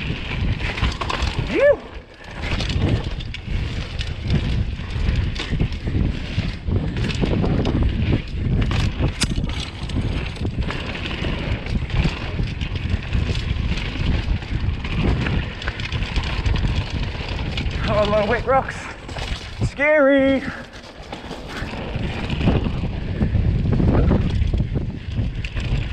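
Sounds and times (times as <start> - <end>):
mountain bike clattering on rocks: 0.0 - 23.0
wind rushing over microphone: 0.0 - 25.9.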